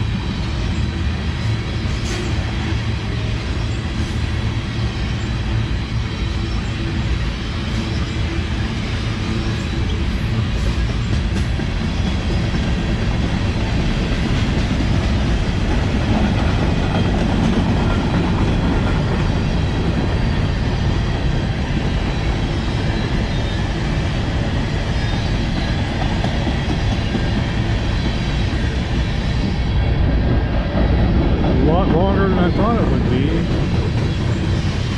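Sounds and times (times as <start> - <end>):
train wheels rumbling on rails: 0.0 - 34.9.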